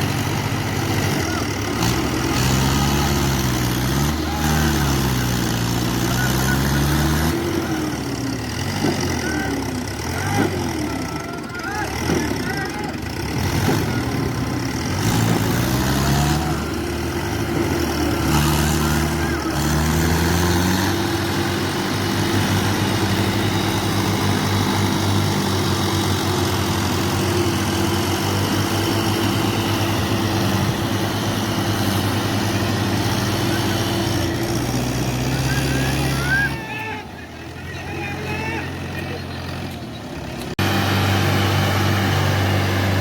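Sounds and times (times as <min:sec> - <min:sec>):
diesel tractor engine revving: 0:00.0 - 0:43.0.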